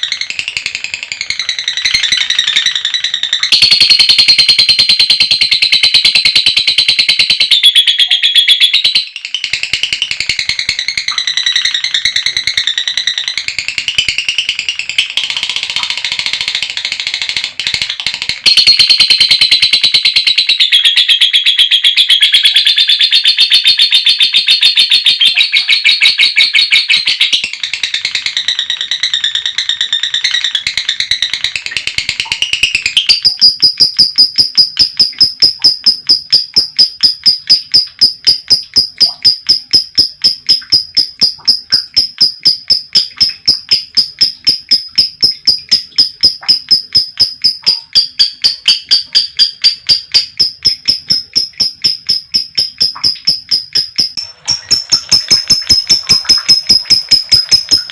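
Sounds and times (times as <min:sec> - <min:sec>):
lovebird chattering rapid high notes: 0:00.0 - 0:57.9.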